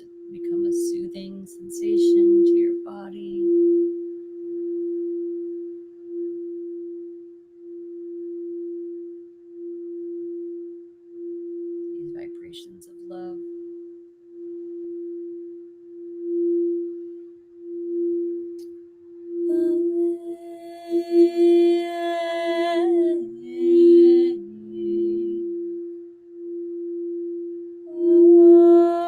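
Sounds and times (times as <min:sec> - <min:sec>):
singing bowl tone: 0:00.0 - 0:29.0.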